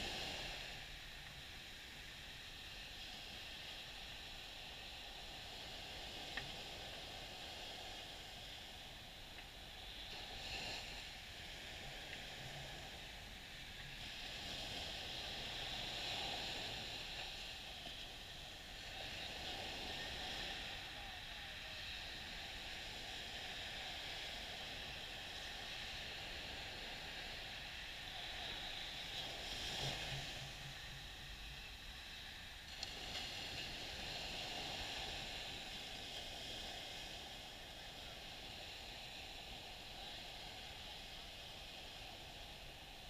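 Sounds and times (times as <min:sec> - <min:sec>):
waves washing on sandy beach: 0:00.0 - 0:43.0.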